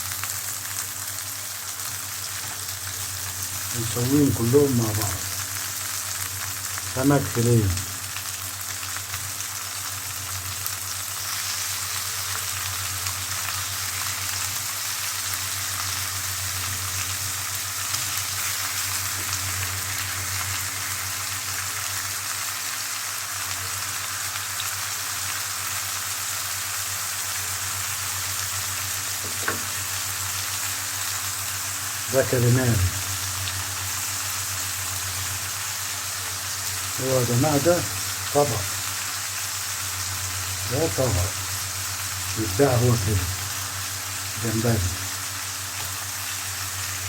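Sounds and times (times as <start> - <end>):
seafood sizzling in hot oil: 0.0 - 47.0.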